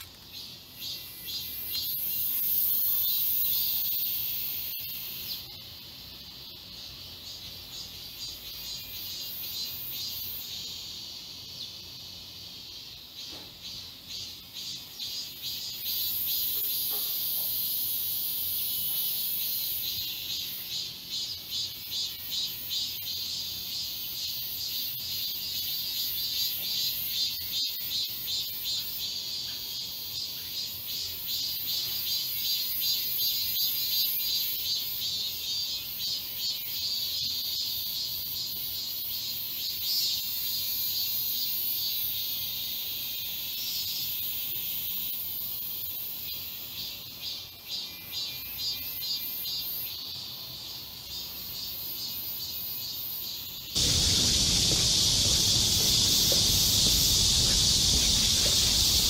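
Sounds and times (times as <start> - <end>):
cicadas buzzing: 0.0 - 59.0.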